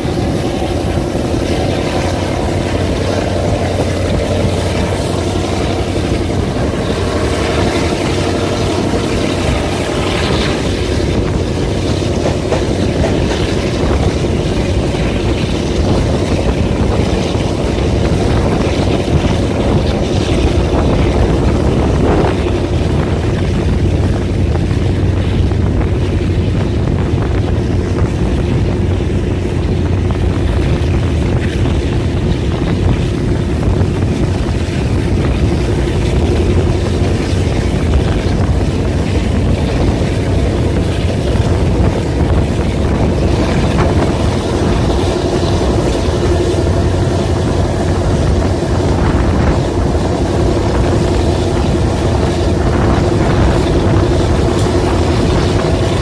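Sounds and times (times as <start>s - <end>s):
locomotive engine running: 0.0s - 56.0s
train wheels rumbling on rails: 0.0s - 56.0s
wind: 0.0s - 56.0s.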